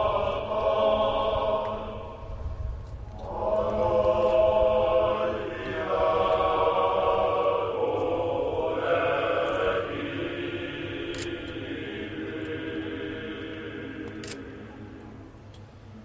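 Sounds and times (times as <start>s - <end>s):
choir singing solemn song: 0.0s - 15.6s.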